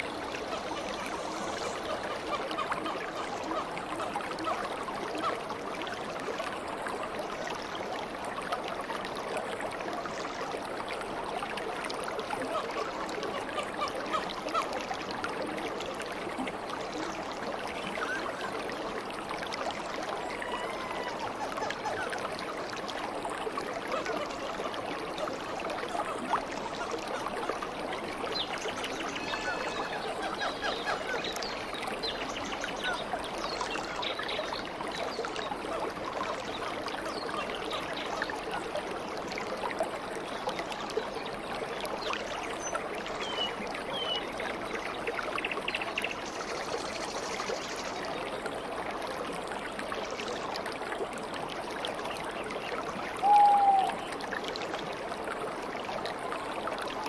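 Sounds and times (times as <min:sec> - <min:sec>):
stream babbling: 0:00.0 - 0:57.0.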